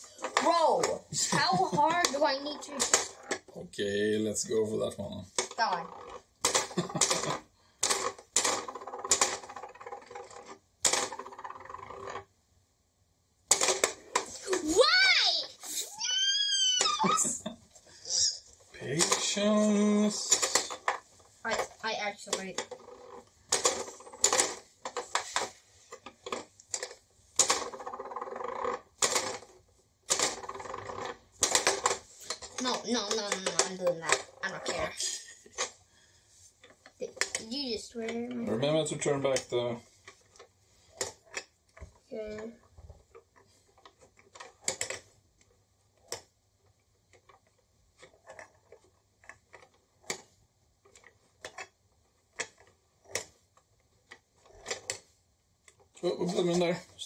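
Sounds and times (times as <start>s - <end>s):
plastic toy mechanism rattling: 0.0s - 3.5s, 4.6s - 12.3s, 13.5s - 57.0s.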